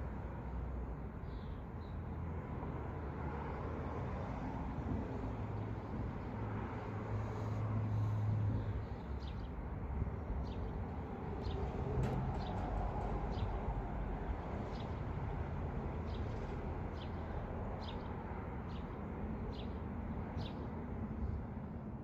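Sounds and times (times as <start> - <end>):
low traffic rumble: 0.0 - 22.0.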